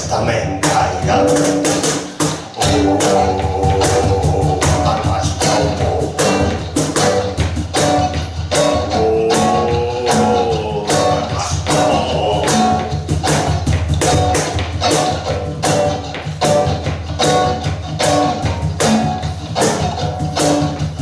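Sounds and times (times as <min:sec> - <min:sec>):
bass notes: 0:00.0 - 0:21.0
live band playing: 0:00.0 - 0:21.0
percussion hits: 0:00.0 - 0:21.0
sustained guitar notes: 0:00.0 - 0:21.0.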